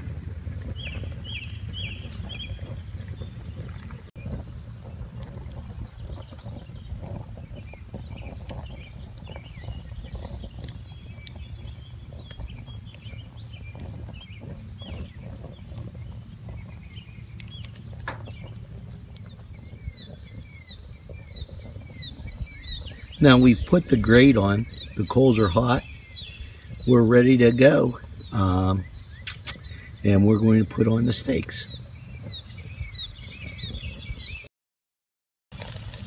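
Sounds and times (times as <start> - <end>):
charcoal fire crackling: 0.0 - 34.4, 35.5 - 36.0
birds chirping: 0.0 - 34.5.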